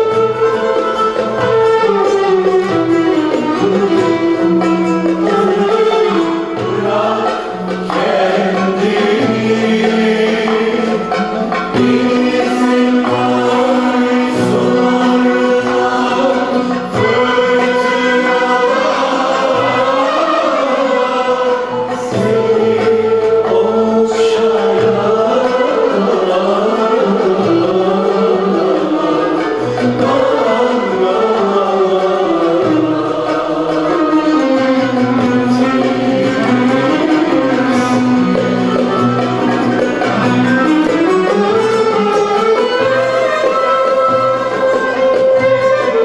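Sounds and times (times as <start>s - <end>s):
choir singing: 0.0s - 46.0s
zither lute and violin ensemble: 0.0s - 46.0s.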